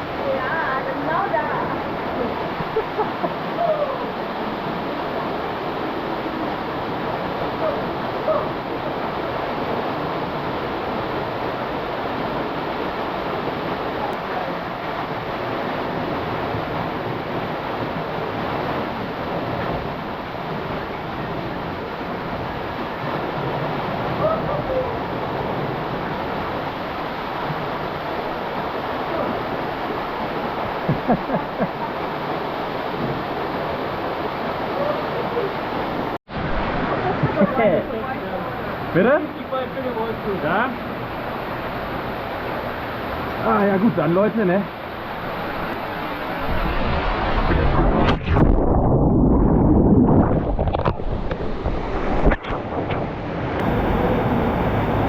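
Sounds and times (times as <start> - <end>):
stream water rushing: 0.0 - 48.6, 49.3 - 55.0.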